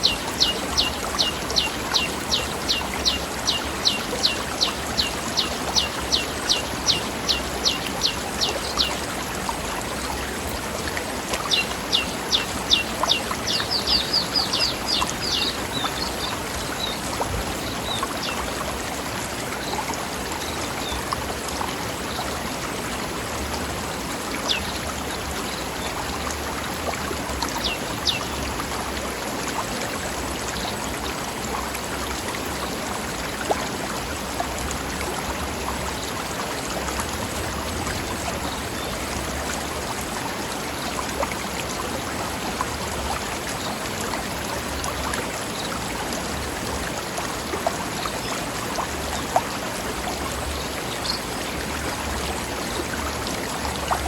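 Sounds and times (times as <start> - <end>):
small water splashes: 0.0 - 54.0
stream flowing over rocks: 0.0 - 54.0.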